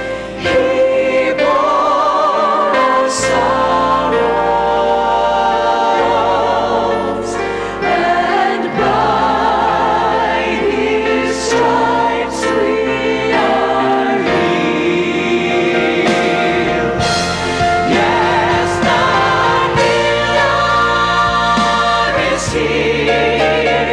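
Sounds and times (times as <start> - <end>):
gospel choir singing: 0.0 - 23.9
instrumental backing with bass: 0.0 - 23.9.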